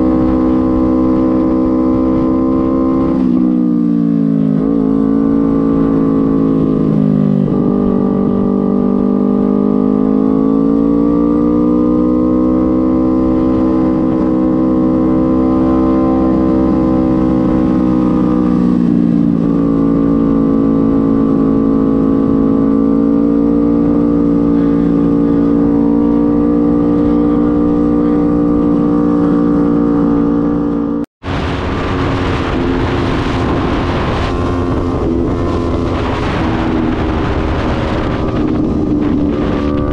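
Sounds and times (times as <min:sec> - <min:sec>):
motorcycle engine cruising: 0:00.0 - 0:39.9
wind rumble: 0:00.0 - 0:39.9.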